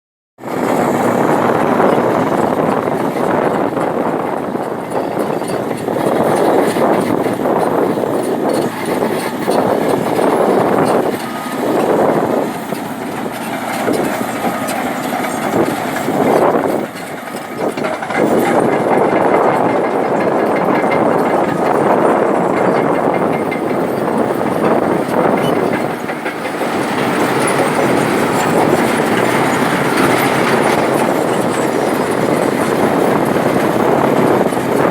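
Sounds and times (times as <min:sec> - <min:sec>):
excavator engine and machinery: 0:00.4 - 0:34.9.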